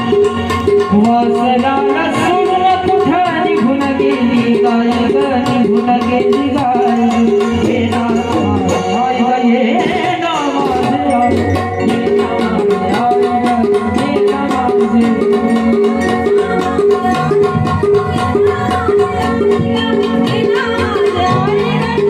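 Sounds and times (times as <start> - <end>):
instrumental music with percussion beat: 0.0 - 22.0.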